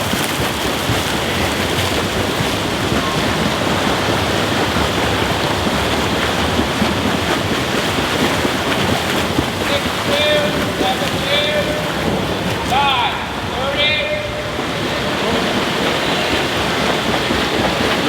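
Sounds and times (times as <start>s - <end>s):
swimmers splashing water: 0.0s - 18.0s.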